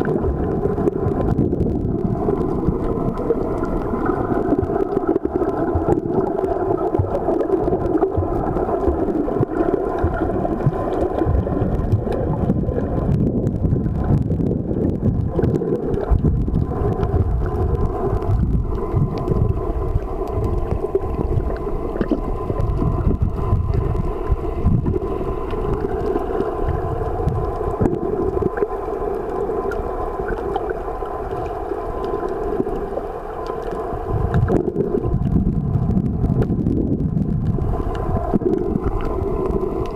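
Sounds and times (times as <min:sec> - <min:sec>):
droning hum: 0:00.0 - 0:39.9
muffled underwater rumble: 0:00.0 - 0:39.9.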